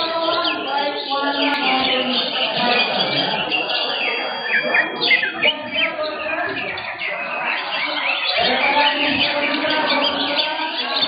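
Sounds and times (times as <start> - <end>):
caged birds singing: 0.0 - 11.0
murmur of crowd voices: 0.0 - 11.0.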